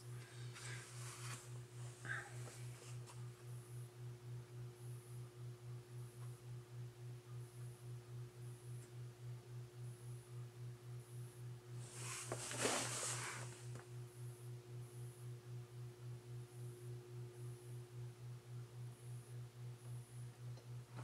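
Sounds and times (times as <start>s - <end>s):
toaster oven hum: 0.0s - 21.0s.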